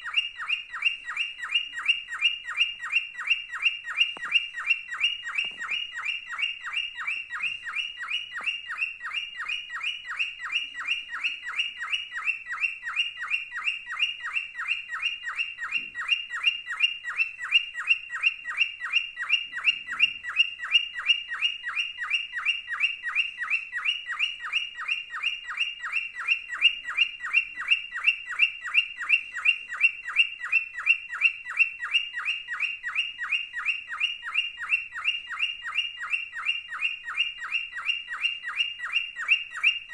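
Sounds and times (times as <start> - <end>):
cockatiel chirping: 0.0 - 39.9.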